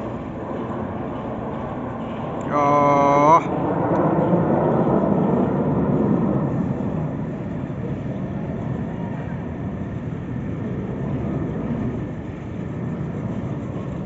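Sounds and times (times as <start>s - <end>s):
distant jets rumbling: 0.0s - 14.0s.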